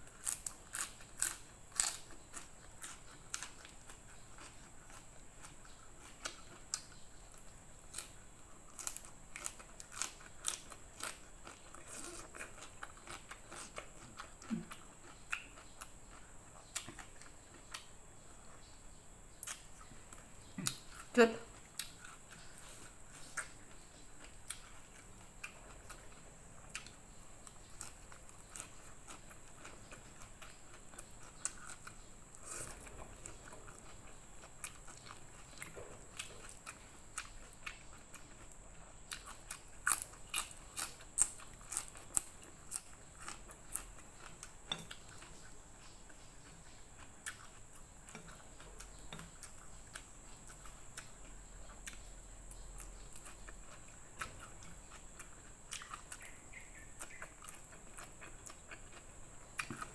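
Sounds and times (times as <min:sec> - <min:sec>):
person chewing crunchy leaves: 0:00.0 - 0:18.7, 0:19.4 - 0:59.9.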